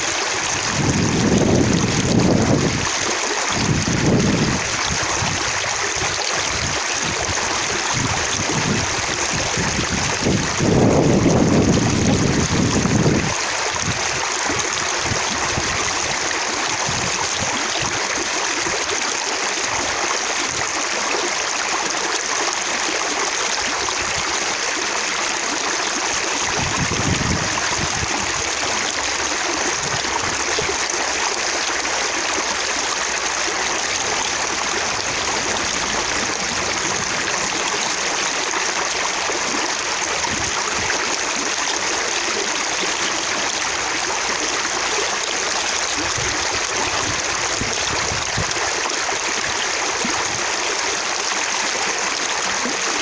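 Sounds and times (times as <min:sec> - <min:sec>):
running water splashing: 0:00.0 - 0:53.0.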